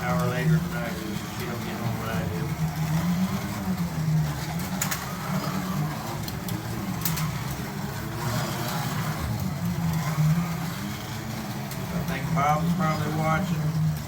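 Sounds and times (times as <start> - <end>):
slot car motors humming: 0.0 - 14.0.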